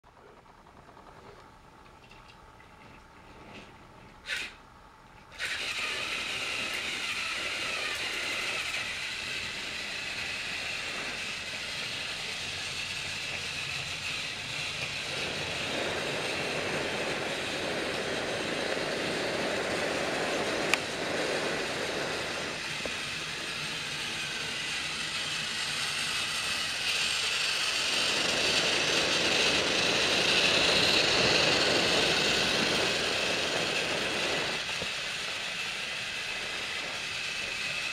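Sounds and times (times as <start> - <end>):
toy train motor whirring: 3.4 - 37.9
wheels clattering on plastic track: 5.2 - 37.9.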